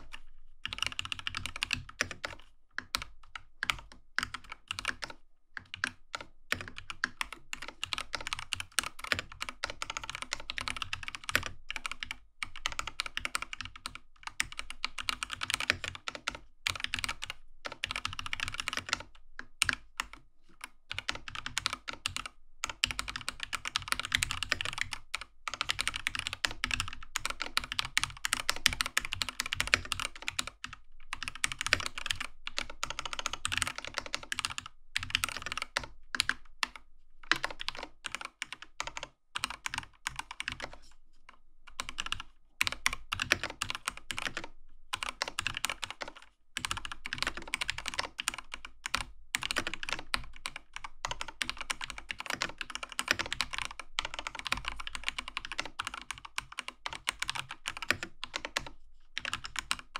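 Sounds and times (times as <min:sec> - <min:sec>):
mechanical keyboard typing: 0:00.0 - 0:20.2, 0:20.9 - 0:40.8, 0:41.7 - 0:59.9.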